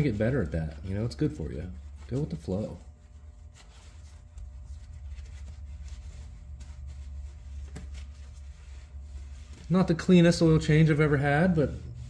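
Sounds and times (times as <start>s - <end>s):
low room hum: 0.0s - 12.0s
towel wiping rustles and clicks: 0.0s - 12.0s.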